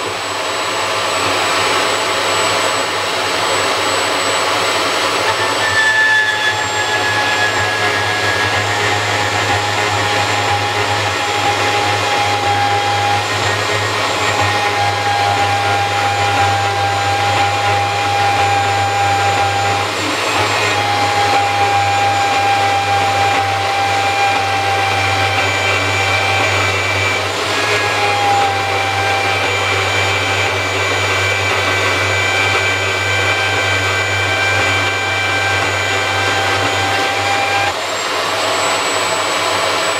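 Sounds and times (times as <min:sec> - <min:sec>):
band saw cutting steel: 0:00.0 - 0:39.9.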